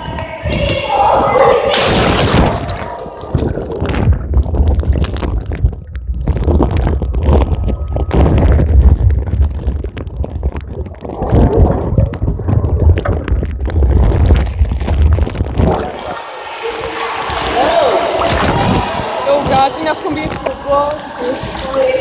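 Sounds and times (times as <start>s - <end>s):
muffled water rumble: 0.0s - 22.0s
bag crackling on microphone: 1.7s - 22.0s.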